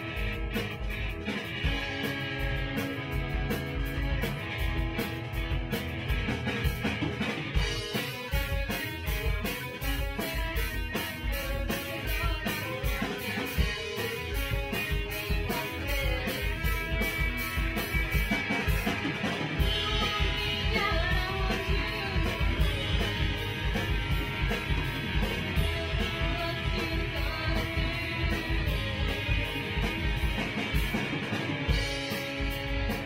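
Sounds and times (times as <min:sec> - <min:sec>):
distorted electric guitars: 0:00.0 - 0:33.0
drum kit beat: 0:00.0 - 0:33.0.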